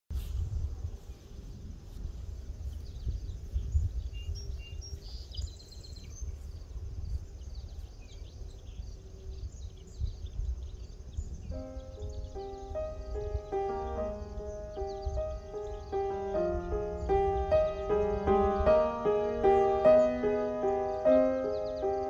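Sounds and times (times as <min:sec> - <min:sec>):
wind rumbling on microphone: 0:00.1 - 0:22.0
faint insect trill: 0:00.5 - 0:22.0
birds chirping: 0:01.6 - 0:22.0.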